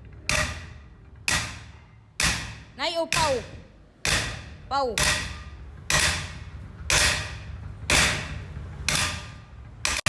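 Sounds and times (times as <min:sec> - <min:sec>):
hammer strikes ringing: 0:00.3 - 0:10.0.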